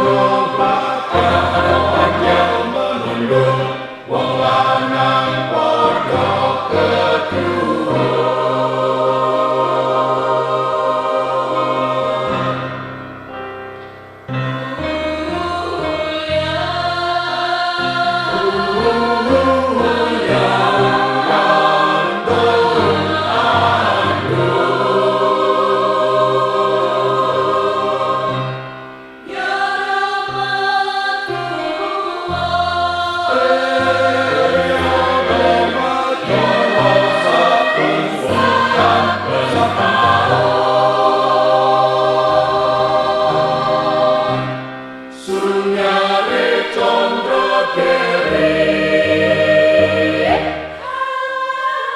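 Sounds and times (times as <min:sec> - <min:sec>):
choir singing in harmony: 0:00.0 - 0:51.9.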